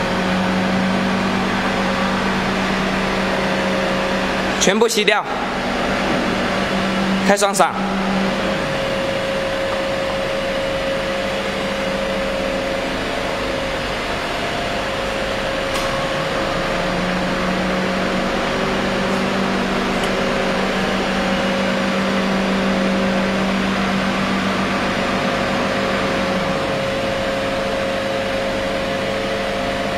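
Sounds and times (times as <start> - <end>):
mechanical hum: 0.0 - 29.9
low droning tone: 5.4 - 29.9.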